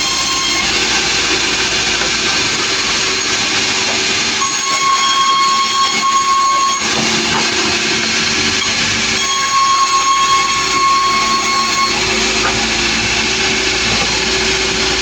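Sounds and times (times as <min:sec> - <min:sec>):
high ringing tone: 0:00.0 - 0:14.9
machine hum: 0:00.0 - 0:15.0
saw whining through timber: 0:00.0 - 0:15.0.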